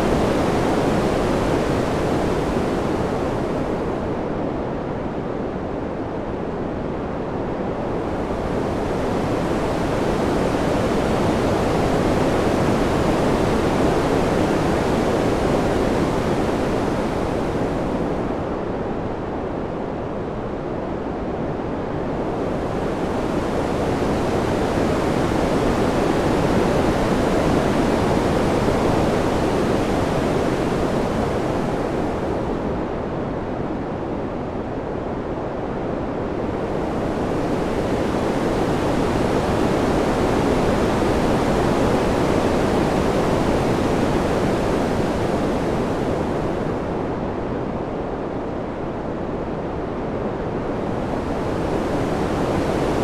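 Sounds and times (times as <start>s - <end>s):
rushing wind: 0.0s - 53.0s.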